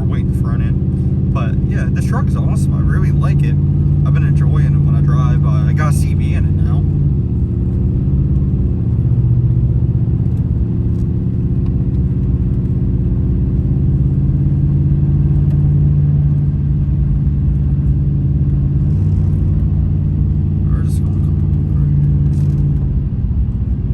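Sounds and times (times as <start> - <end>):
pickup engine and road drone: 0.0 - 23.9.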